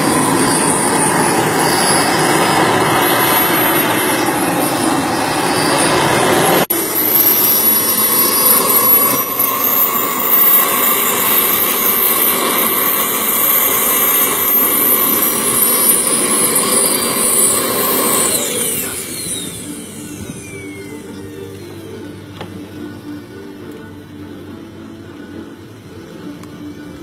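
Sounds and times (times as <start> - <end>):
jet turbine rush and whine: 0.0 - 27.0.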